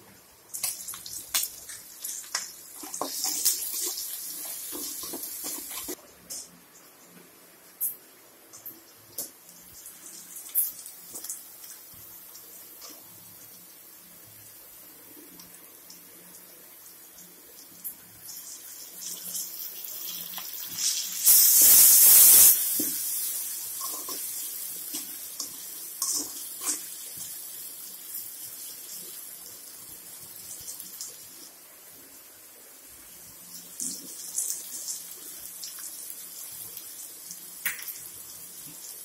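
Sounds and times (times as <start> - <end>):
food sizzling in hot oil: 0.4 - 6.0, 8.6 - 32.3, 33.0 - 39.0.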